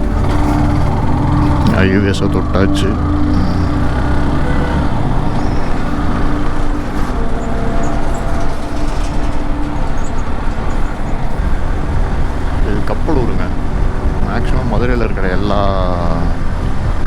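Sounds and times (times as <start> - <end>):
held tone: 0.0 - 17.0
motorcycle engine: 0.0 - 17.0.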